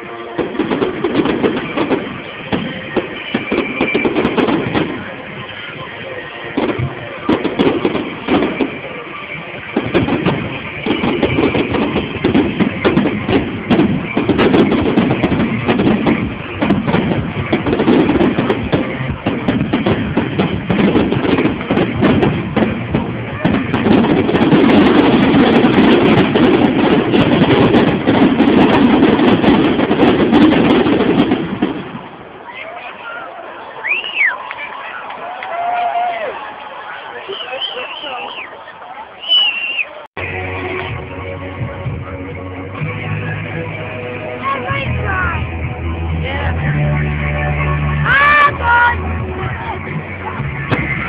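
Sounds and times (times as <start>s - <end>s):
fireworks bangs and cracks: 0.0s - 38.5s, 39.2s - 51.0s.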